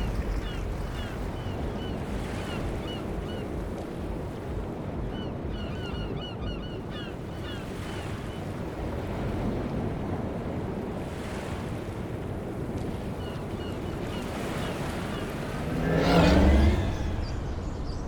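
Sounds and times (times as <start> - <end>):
surf: 0.0 - 18.0
wind: 0.0 - 18.0.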